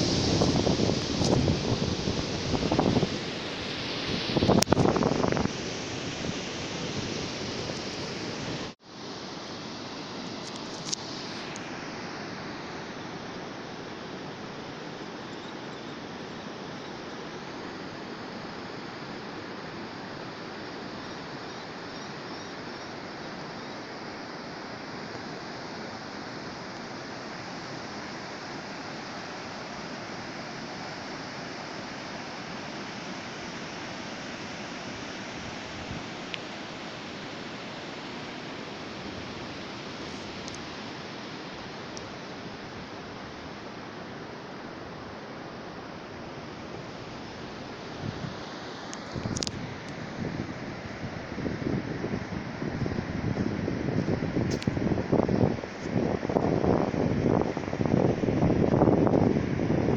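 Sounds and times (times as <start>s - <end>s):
sea surf breaking on shore: 0.0s - 9.0s, 16.9s - 59.9s.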